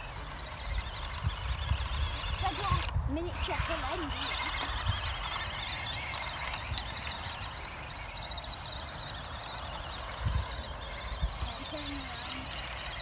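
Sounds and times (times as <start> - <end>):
electric motor whining: 0.0 - 13.0
toy truck driving through grass: 0.0 - 13.0.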